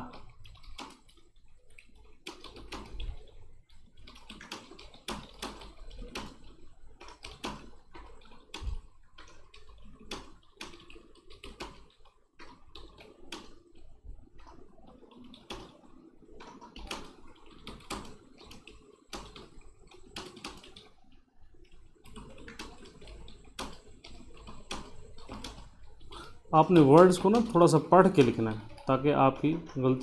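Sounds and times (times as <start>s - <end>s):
keyboard typing: 0.0s - 21.0s, 21.6s - 30.0s.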